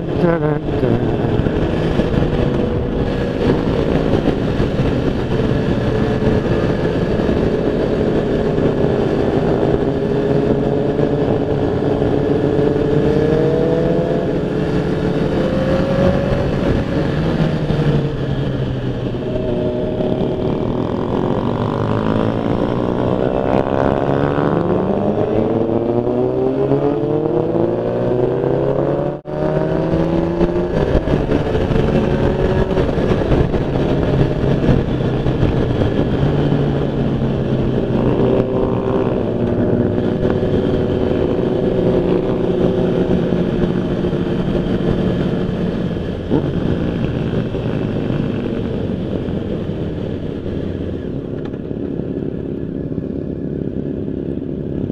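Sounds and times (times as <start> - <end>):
motorcycle engine revving: 0.0 - 54.9
wind and road noise: 0.0 - 54.9.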